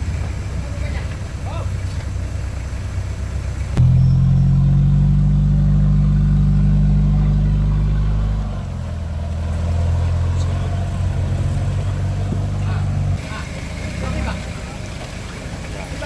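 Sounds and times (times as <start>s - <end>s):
off-road engine running loudly: 0.0s - 16.0s.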